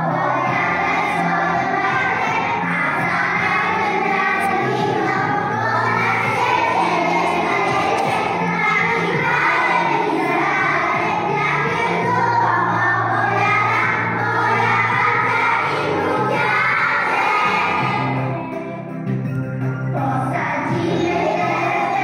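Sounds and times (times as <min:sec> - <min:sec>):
children singing together: 0:00.0 - 0:19.0, 0:19.9 - 0:22.0
instrumental accompaniment with bass: 0:00.0 - 0:22.0.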